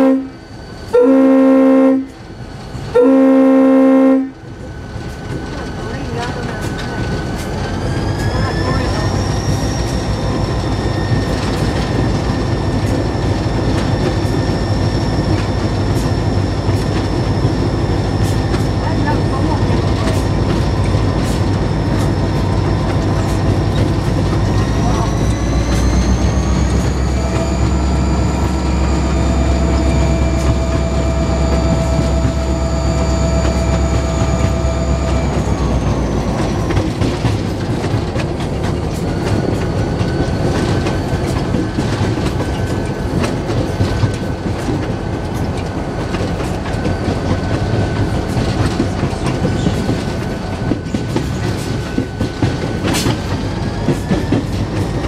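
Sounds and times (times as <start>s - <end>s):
diesel locomotive engine drone: 0.0s - 55.0s
wheels clicking over rail joints: 10.4s - 55.0s.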